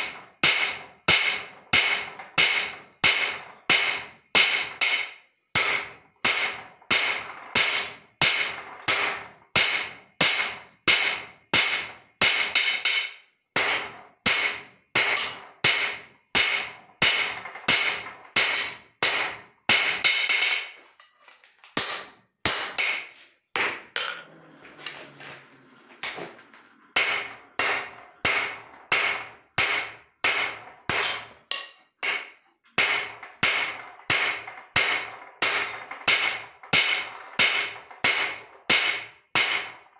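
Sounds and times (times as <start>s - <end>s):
hammer striking steel on anvil: 0.0s - 20.8s, 21.8s - 24.1s, 27.0s - 39.8s.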